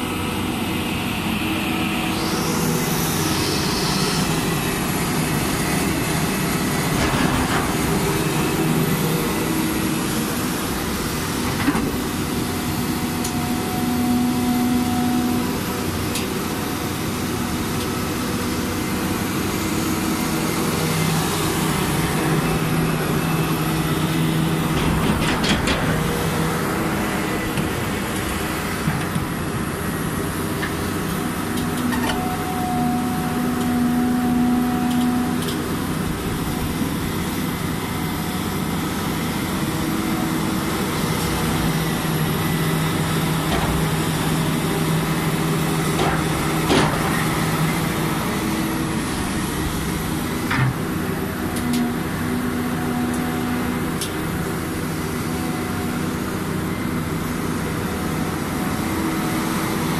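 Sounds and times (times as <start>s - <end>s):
excavator diesel engine working: 0.0s - 59.9s.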